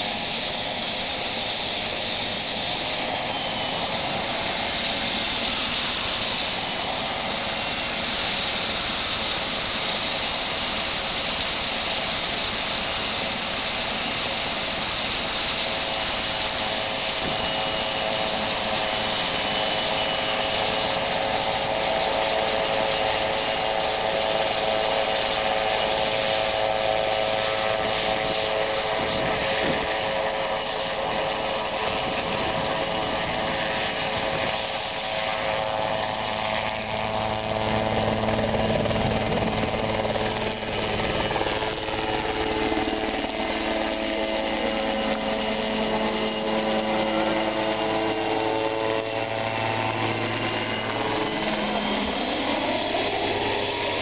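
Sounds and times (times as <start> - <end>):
helicopter engine: 0.0 - 54.0.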